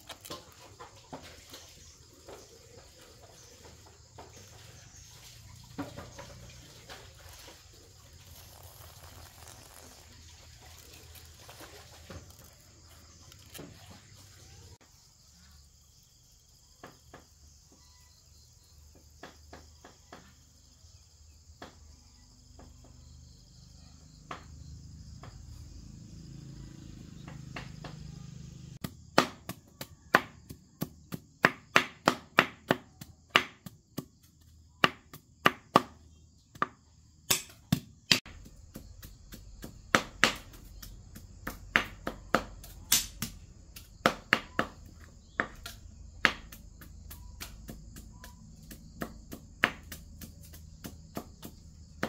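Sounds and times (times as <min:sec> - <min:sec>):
insects chirring: 0:00.0 - 0:52.0.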